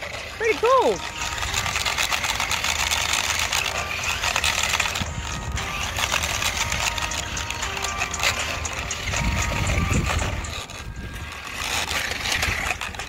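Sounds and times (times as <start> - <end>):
plastic wheels grinding on asphalt: 0.0 - 13.0
small electric motors running: 0.0 - 13.0.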